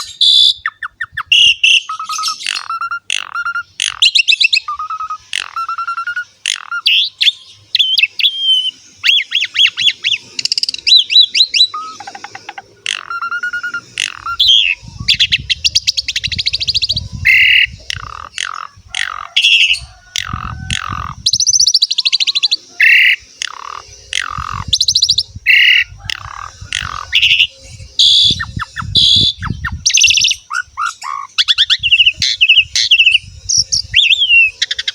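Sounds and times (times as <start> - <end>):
starling singing varied song: 0.0 - 34.9.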